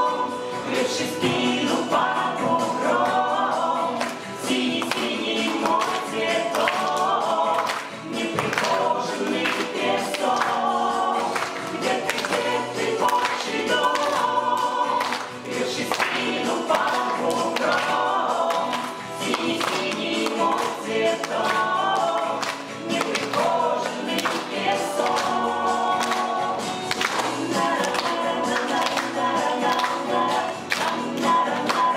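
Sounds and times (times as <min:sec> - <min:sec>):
vocal ensemble singing: 0:00.0 - 0:31.9.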